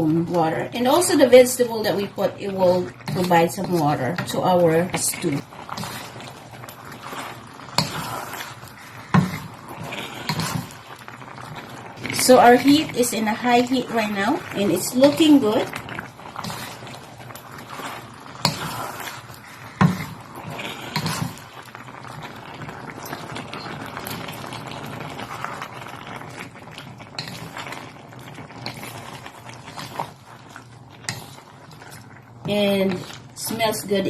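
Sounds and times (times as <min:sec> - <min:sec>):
chicken sizzling in a pot: 0:00.0 - 0:34.0.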